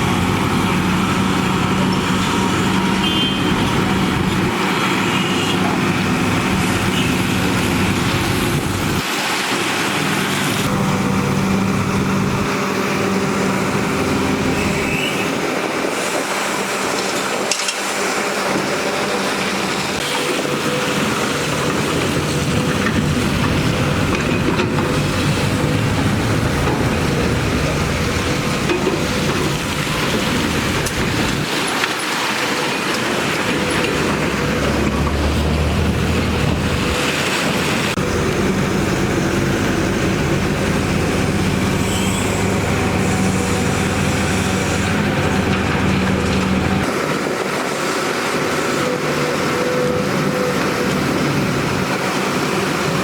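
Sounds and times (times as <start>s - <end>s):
diesel engines under load: 0.0s - 53.0s.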